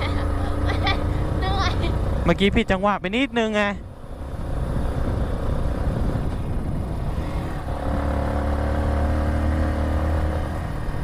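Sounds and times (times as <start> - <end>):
road and wind rumble: 0.0 - 11.0
vehicle engine running: 0.0 - 11.0.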